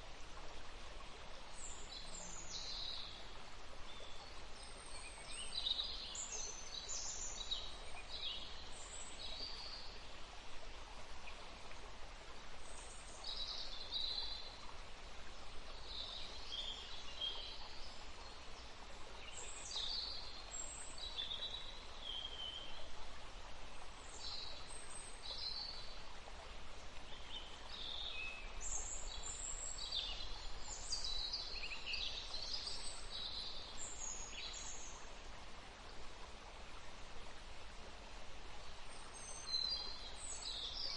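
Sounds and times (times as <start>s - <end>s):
flowing stream rushing: 0.0s - 40.9s.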